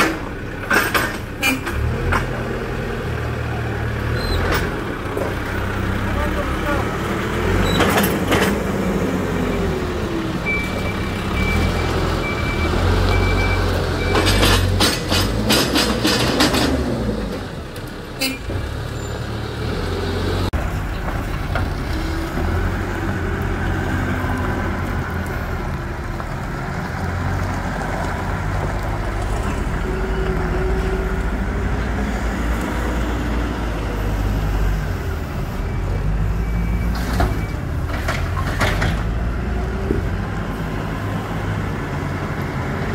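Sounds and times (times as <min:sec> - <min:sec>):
backhoe diesel engine working: 0:00.0 - 0:42.9.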